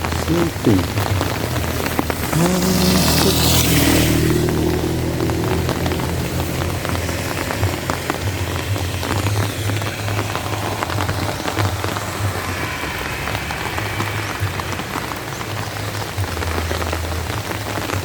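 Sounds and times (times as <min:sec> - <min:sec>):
low uneven rumble: 0:00.0 - 0:18.0
rain falling: 0:00.0 - 0:18.0.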